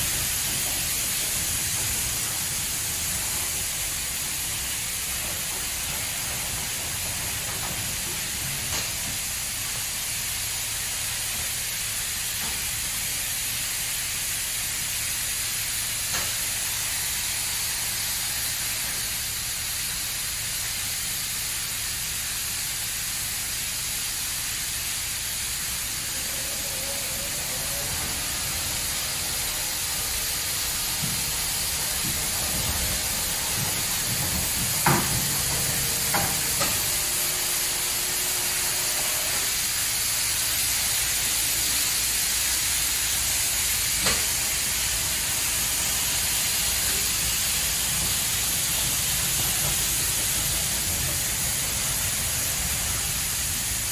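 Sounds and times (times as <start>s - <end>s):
high-pressure water spraying: 0.0s - 53.9s.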